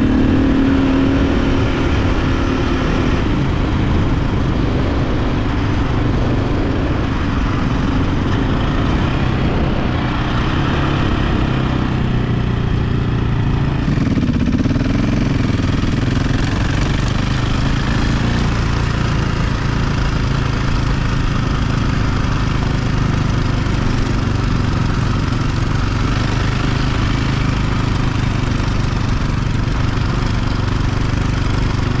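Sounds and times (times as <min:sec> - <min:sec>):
constant rushing noise: 0:00.0 - 0:32.0
dirt bike engine running: 0:00.0 - 0:32.0.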